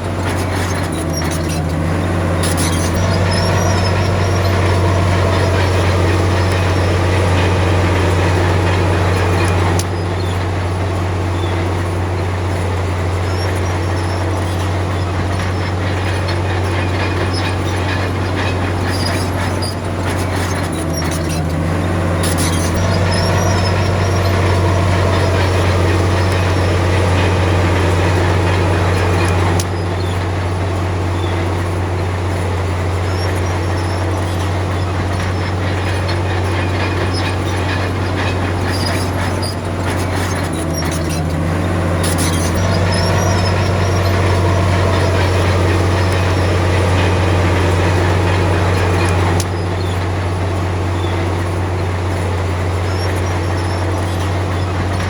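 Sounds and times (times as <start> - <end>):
bulldozer diesel engine drone: 0.0 - 55.0
steel tracks clattering: 0.0 - 55.0.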